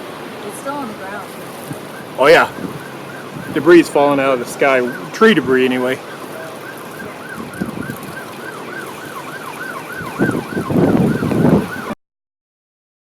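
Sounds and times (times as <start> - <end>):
wind rushing over microphone: 0.0 - 12.0
siren yelping: 1.2 - 12.0.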